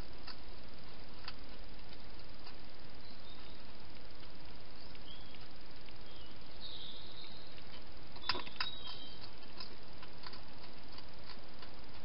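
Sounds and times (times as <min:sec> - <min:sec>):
hedgehog feeding clicks: 0:00.0 - 0:12.0
steady hiss: 0:00.0 - 0:12.0.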